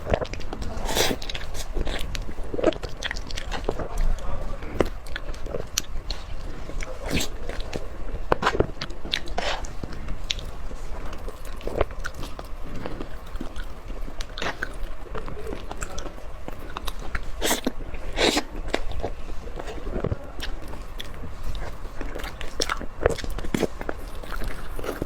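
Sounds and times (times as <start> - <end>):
crunchy chewing: 0.0 - 25.0.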